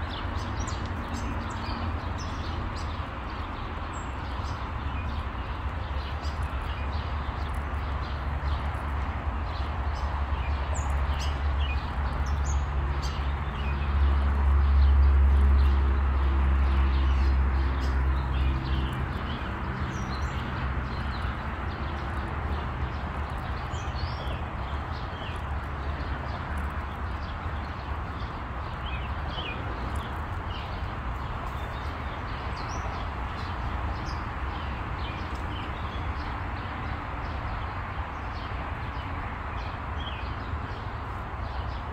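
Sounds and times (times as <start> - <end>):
steady outdoor hum: 0.0 - 41.9.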